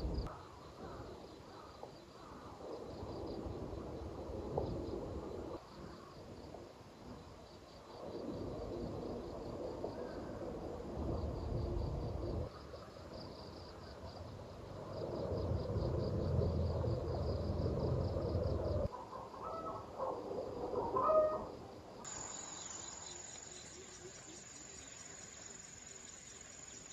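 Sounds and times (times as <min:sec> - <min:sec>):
insects chirping: 0:00.0 - 0:19.6, 0:20.3 - 0:26.9.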